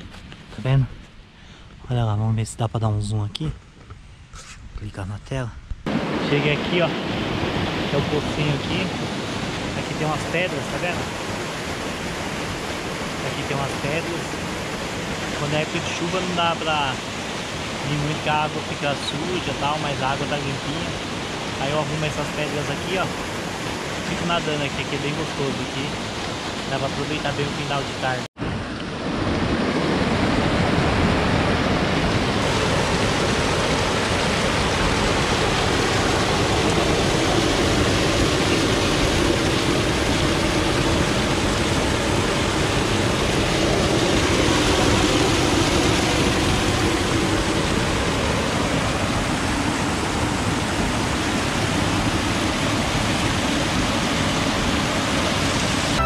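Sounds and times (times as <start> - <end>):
water rushing over rocks: 5.9 - 56.0.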